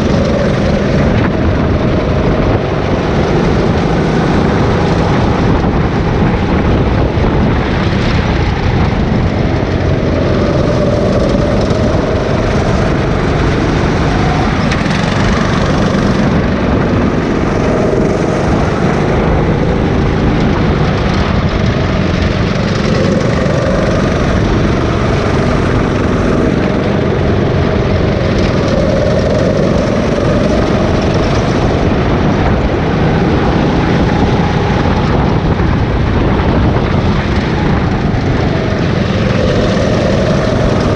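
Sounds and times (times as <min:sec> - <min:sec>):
go-kart engine running hard: 0:00.0 - 0:40.9
wind rumble on microphone: 0:00.0 - 0:40.9.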